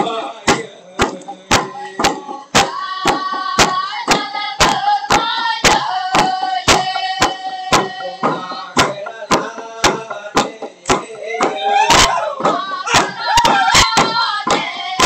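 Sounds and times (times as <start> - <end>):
voices singing a chant: 0.0 - 15.0
bamboo tubes knocking on log: 0.5 - 14.7.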